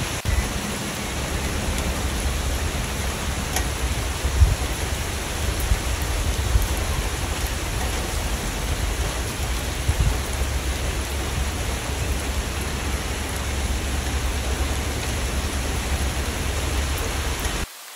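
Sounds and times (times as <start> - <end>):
steady rain: 0.0 - 17.9.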